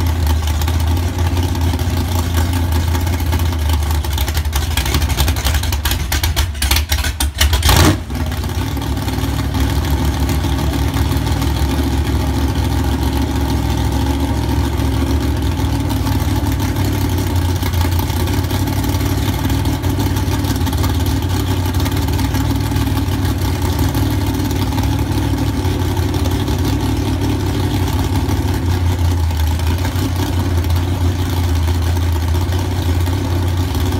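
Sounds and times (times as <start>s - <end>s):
engine running through open headers: 0.0s - 33.9s.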